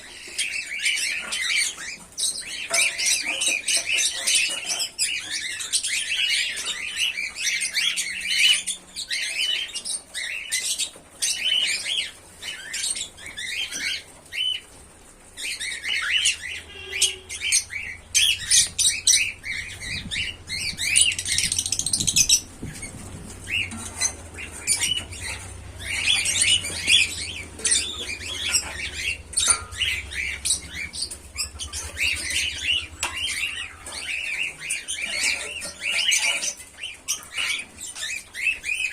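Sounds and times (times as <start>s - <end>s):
cockatiels chirping and squawking: 0.0s - 38.9s.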